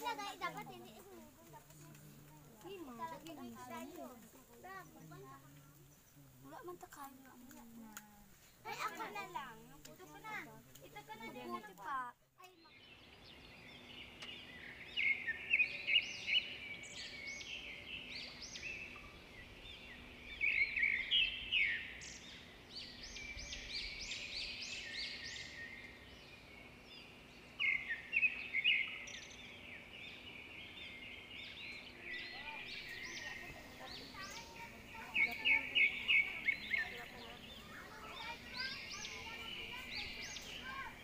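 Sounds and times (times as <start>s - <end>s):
birds singing and chirping: 0.0s - 41.0s.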